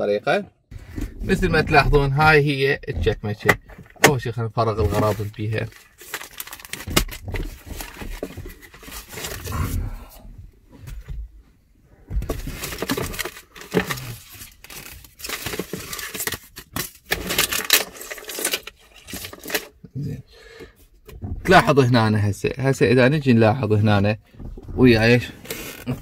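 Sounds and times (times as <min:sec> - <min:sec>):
rustling and crinkling: 0:00.7 - 0:19.9, 0:24.2 - 0:26.0.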